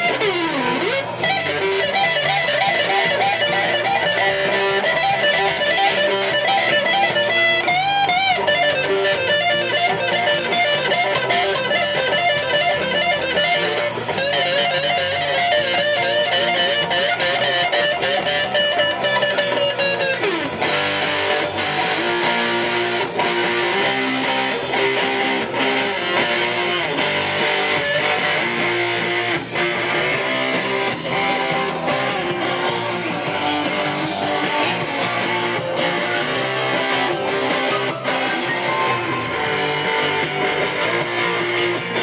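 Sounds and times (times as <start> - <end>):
electric guitar lead line: 0.0 - 42.0.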